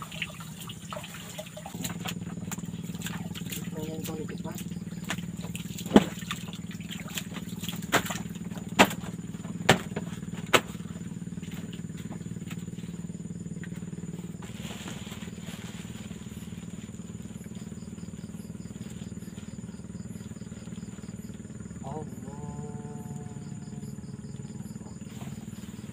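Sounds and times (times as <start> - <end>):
low steady hum: 0.0 - 25.9.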